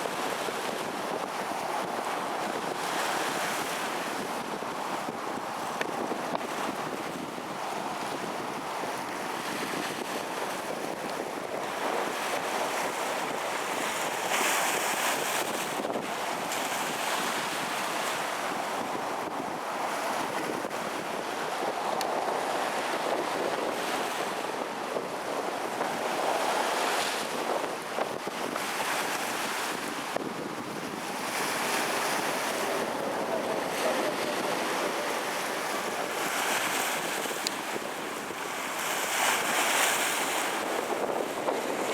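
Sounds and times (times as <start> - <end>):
storm surf breaking on shore: 0.0 - 41.9
wind buffeting microphone: 0.0 - 41.9.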